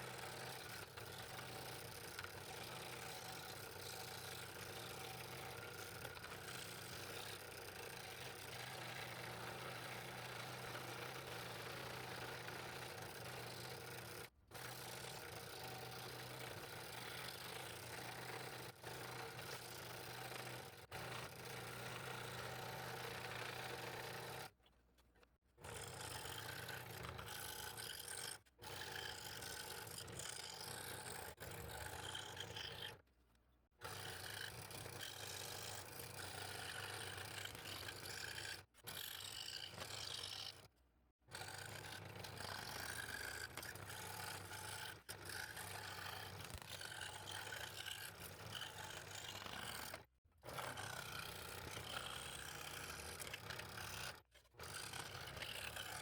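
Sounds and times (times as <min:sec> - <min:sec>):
scroll saw motor humming: 0:00.0 - 0:24.6, 0:25.6 - 0:33.0, 0:41.3 - 0:56.0.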